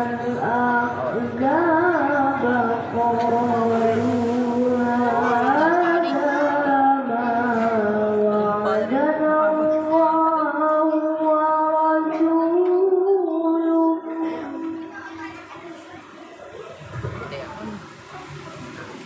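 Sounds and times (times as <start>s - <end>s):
boy reciting melodically into microphone: 0.0s - 16.3s.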